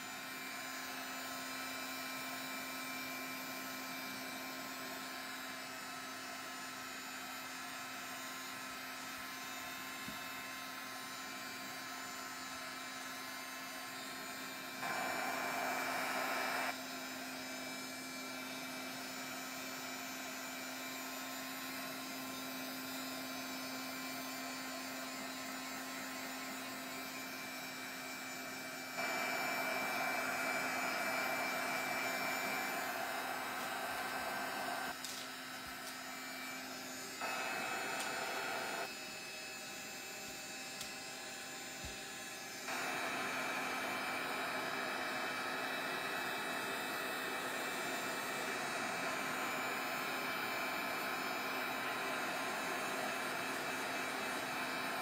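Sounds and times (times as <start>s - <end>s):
heat gun blowing: 8.6s - 55.0s.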